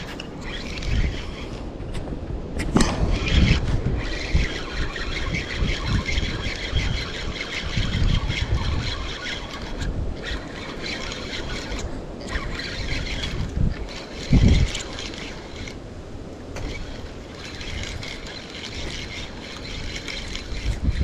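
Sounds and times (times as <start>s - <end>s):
fishing reel whirring: 0.0s - 1.8s, 2.6s - 21.0s
wind buffeting microphone: 0.0s - 21.0s.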